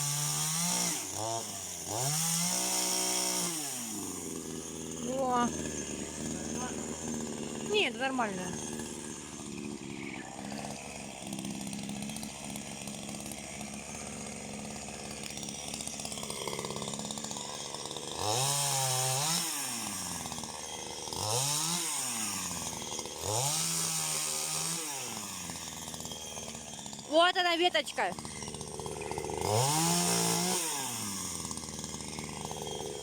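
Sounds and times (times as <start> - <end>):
chainsaw idling and revving: 0.0 - 33.0.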